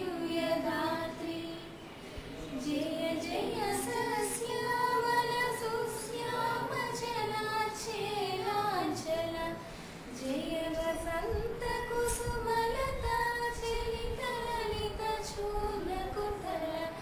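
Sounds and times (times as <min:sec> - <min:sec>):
young women singing together: 0:00.0 - 0:17.0.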